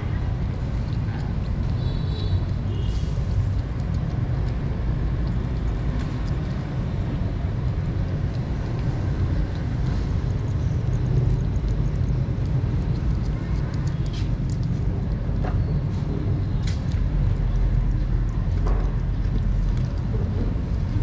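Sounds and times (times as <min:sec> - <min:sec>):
kittens chewing and licking: 0:00.0 - 0:21.0
steady low rumble: 0:00.0 - 0:21.0.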